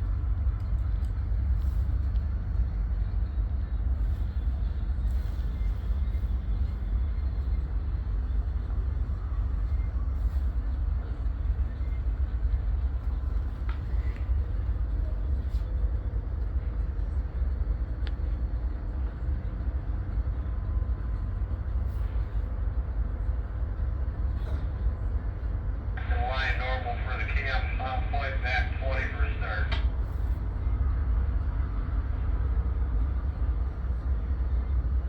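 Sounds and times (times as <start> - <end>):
locomotives idling: 0.0 - 35.0.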